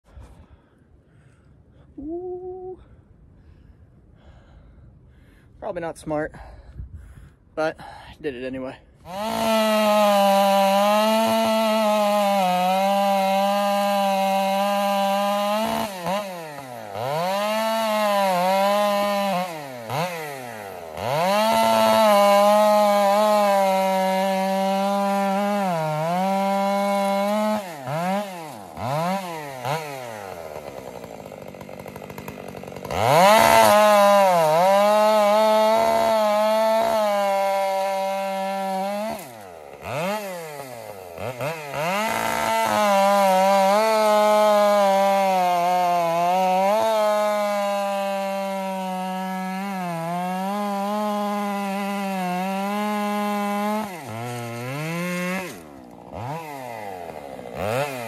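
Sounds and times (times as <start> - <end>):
chainsaw cutting wood: 9.0 - 58.0.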